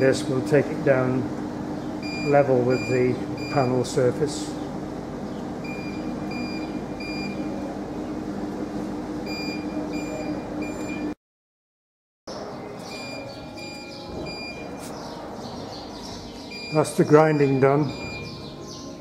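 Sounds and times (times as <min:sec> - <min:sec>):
machinery hum: 0:00.0 - 0:11.2, 0:12.3 - 0:19.0.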